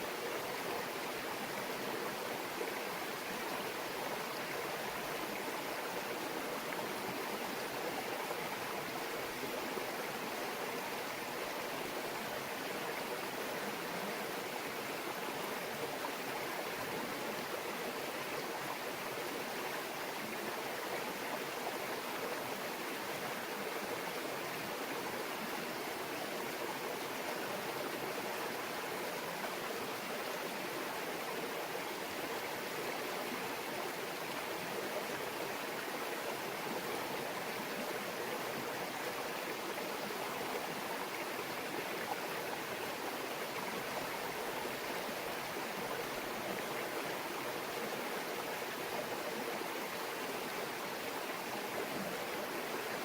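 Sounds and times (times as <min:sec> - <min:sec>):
brook babbling over rocks: 0:00.0 - 0:53.0.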